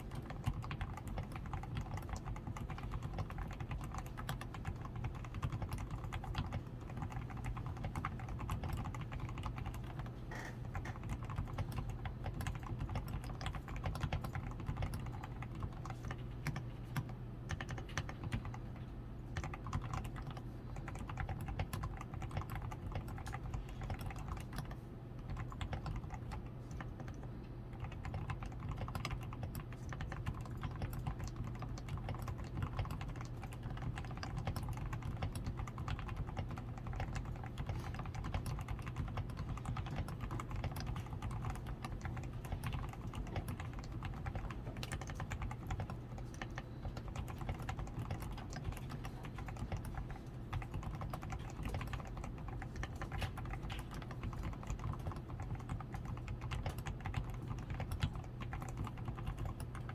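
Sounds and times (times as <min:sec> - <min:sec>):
mechanical keyboard typing: 0:00.0 - 0:59.9
steady low hum: 0:00.0 - 0:59.9.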